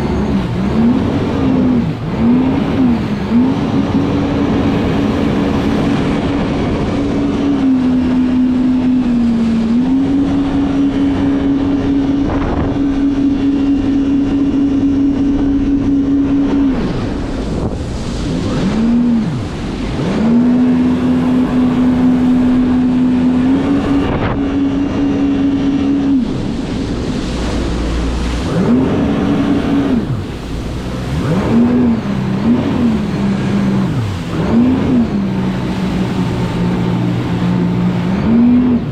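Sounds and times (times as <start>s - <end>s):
jet ski engine revving: 0.0s - 38.9s
rushing noise: 0.0s - 38.9s.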